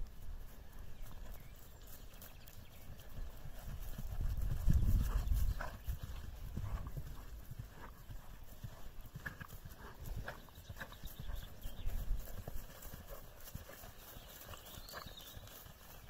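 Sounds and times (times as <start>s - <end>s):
hoofbeats on turf: 0.0s - 16.0s.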